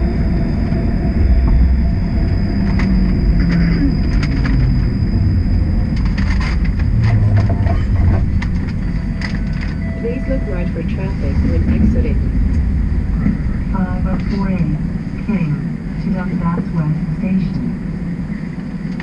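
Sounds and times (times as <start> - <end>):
faint high whine: 0.0 - 19.0
streetcar rumbling on rails: 0.0 - 19.0.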